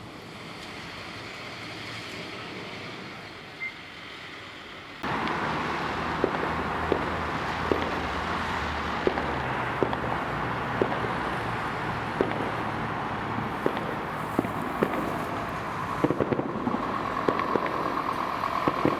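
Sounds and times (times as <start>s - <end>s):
vehicle engine and road noise: 0.0s - 18.9s.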